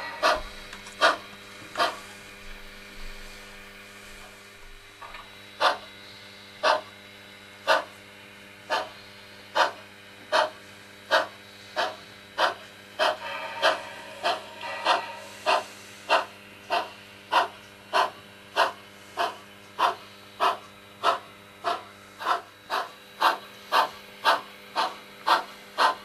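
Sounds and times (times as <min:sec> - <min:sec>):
steady hum: 0:00.0 - 0:25.4
model steam locomotive chuffs: 0:00.0 - 0:26.0.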